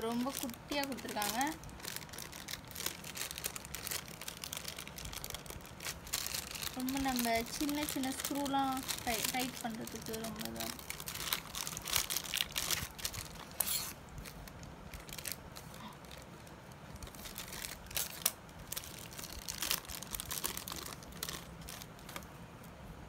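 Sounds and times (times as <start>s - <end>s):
plastic packaging crinkling and tearing: 0.0s - 22.3s.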